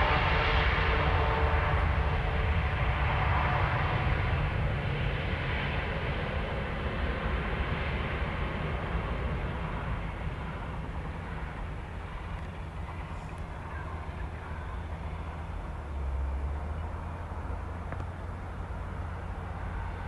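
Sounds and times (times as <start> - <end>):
jet engines rumbling overhead: 0.0 - 20.0.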